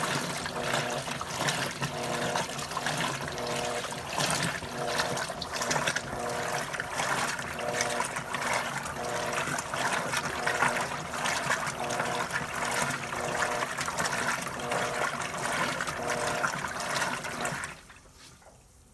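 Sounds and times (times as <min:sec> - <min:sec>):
washing machine motor whine: 0:00.0 - 0:18.0
water sloshing and churning: 0:00.0 - 0:18.6.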